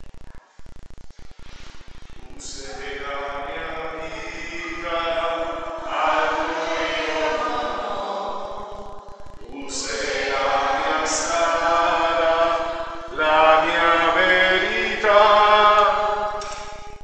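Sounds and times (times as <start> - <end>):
slow hymn singing: 2.2 - 17.0.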